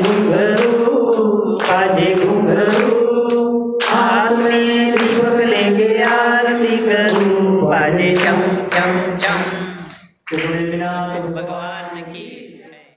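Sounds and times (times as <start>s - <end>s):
hand claps: 0.0s - 10.7s
women singing in unison: 0.0s - 12.8s.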